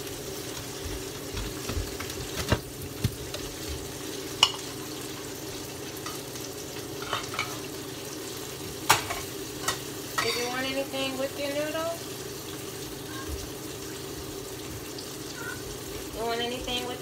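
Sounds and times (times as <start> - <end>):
fish sizzling in hot oil: 2.3 - 17.0.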